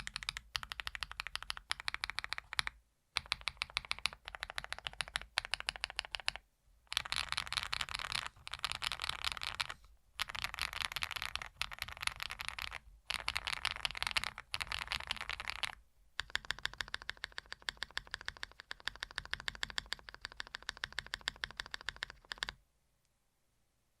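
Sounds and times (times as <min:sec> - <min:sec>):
mechanical keyboard typing: 0:00.0 - 0:22.6.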